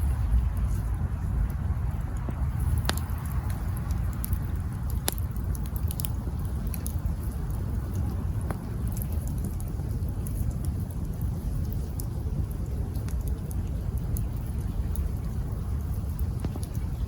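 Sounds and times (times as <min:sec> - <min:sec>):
campfire wood crackling: 0:00.0 - 0:17.0
sharp pops of fire: 0:00.0 - 0:17.0
steady low rumble: 0:00.0 - 0:17.0.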